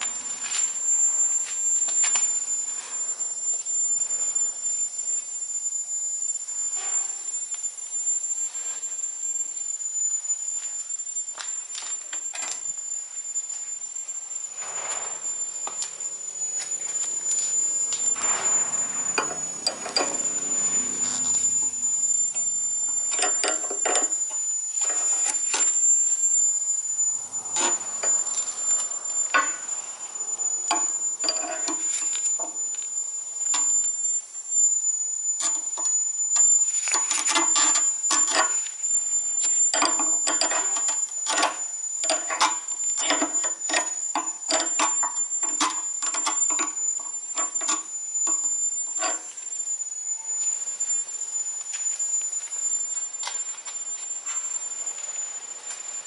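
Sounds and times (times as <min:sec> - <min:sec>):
high-pitched whine: 0:00.0 - 0:56.0.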